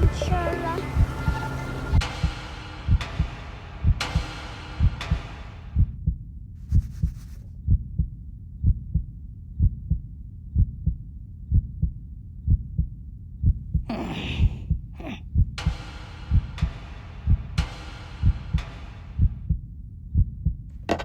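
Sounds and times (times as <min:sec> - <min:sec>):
heartbeat double thumps: 0:00.0 - 0:20.7.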